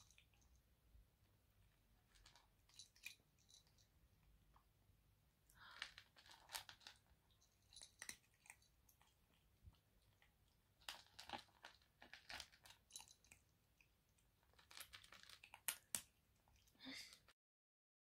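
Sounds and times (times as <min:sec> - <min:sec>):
kitten crunching dry kibble: 0:00.0 - 0:04.8, 0:05.4 - 0:17.3.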